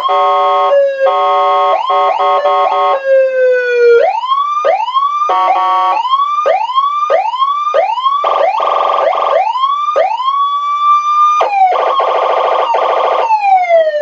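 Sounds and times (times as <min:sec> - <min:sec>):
rising whoop siren: 0:00.0 - 0:14.0.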